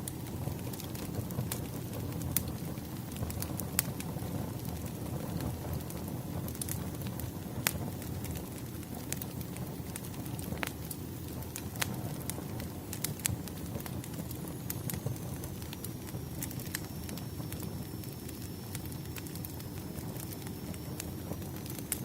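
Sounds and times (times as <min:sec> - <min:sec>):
burning wood crackling and popping: 0:00.0 - 0:22.0
low rumble of flame: 0:00.0 - 0:22.0.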